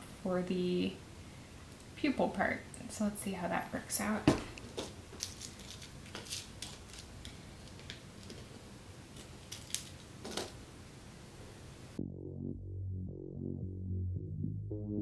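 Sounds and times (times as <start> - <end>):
low room tone: 0.0 - 15.0.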